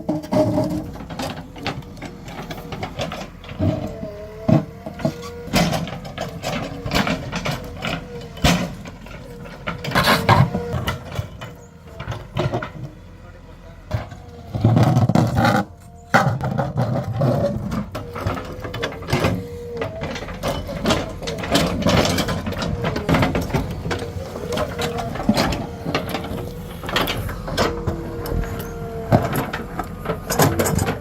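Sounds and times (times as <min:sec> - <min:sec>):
backhoe loader running hum: 0:00.0 - 0:31.0.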